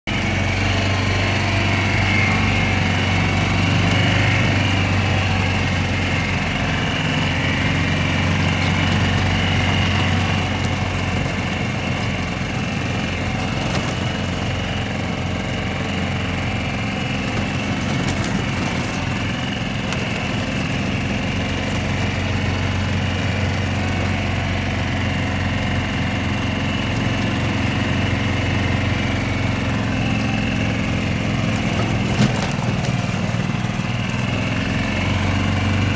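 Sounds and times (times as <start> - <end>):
golf cart engine running: 0.1 - 35.9.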